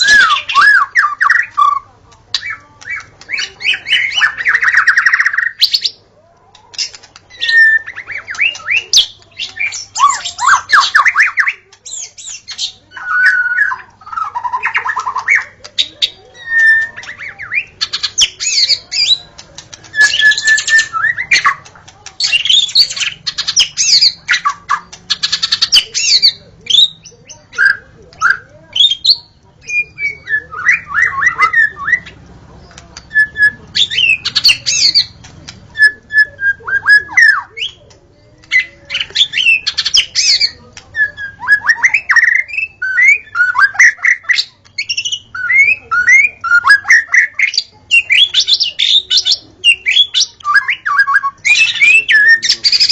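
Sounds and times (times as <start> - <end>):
songbird whistling and chattering: 0.0 - 52.9.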